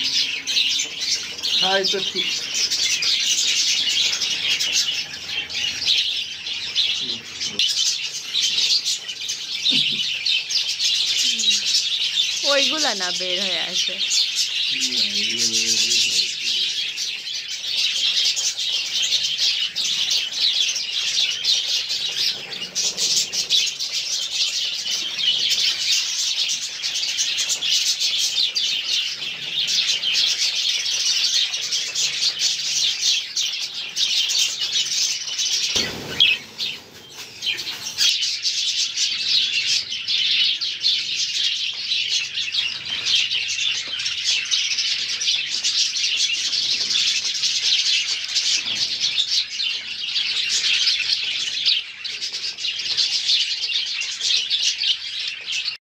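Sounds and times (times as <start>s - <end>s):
flock of budgerigars chattering: 0.0s - 55.8s.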